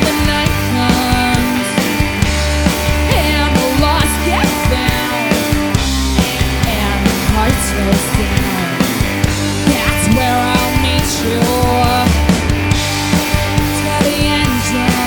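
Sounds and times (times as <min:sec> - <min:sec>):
rock band playing grunge: 0:00.0 - 0:15.0.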